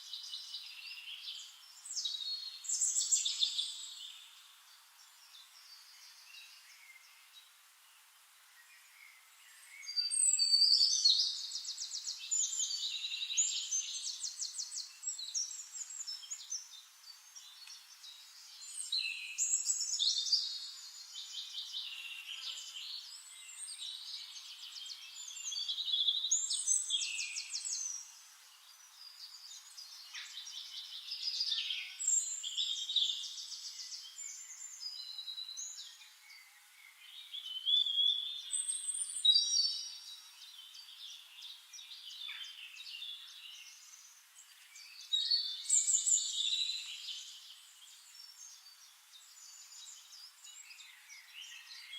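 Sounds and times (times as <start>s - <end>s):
songbird trills and whistles: 8.6s - 28.1s, 29.0s - 51.9s.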